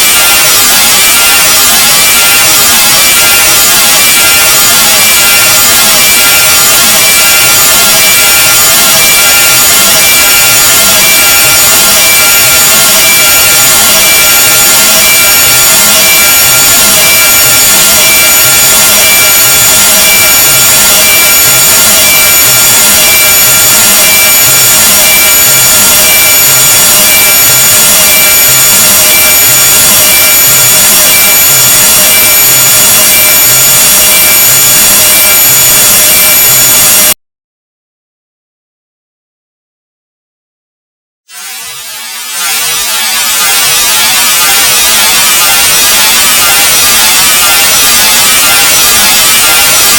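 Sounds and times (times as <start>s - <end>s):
harsh noise hiss: 0.0s - 37.2s, 41.3s - 49.9s
shrill steady tones: 0.0s - 37.2s, 41.3s - 49.9s.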